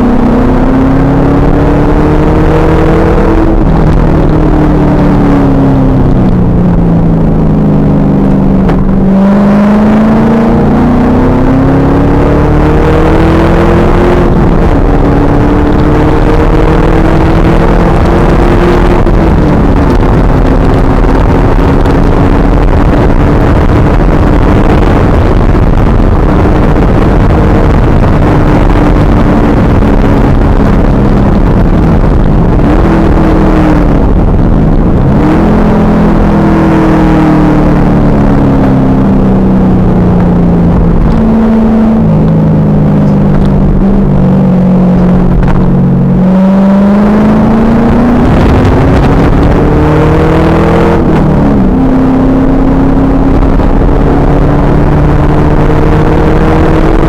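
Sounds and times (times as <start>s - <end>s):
car engine revving hard: 0.0s - 57.0s
loud distorted wind noise: 0.0s - 57.0s.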